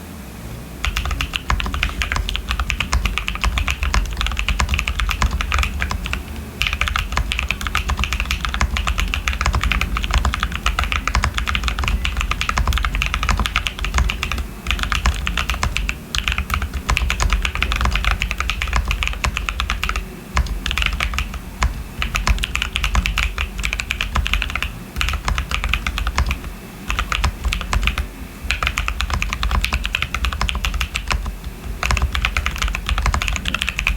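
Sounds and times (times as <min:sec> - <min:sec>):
mechanical keyboard typing: 0:00.8 - 0:33.9.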